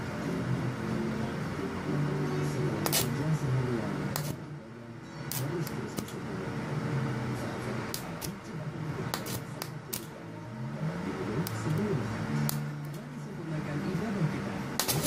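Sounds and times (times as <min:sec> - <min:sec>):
welding inverter whirring: 0:00.0 - 0:15.0.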